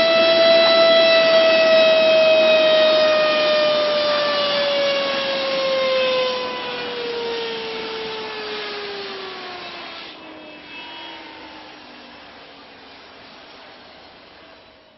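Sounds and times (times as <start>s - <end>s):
helicopter turbine winding down: 0.0s - 14.9s.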